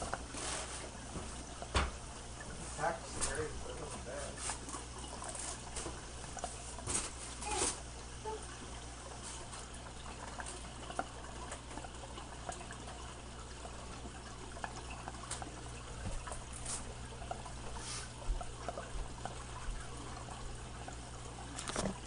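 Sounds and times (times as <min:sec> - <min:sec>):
low steady hum: 0:00.0 - 0:22.0
water trickling from filter: 0:00.0 - 0:22.0.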